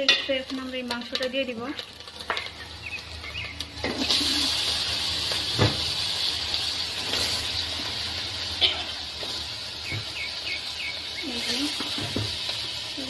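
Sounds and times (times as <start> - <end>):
beef sizzling in oil: 0.0 - 13.0.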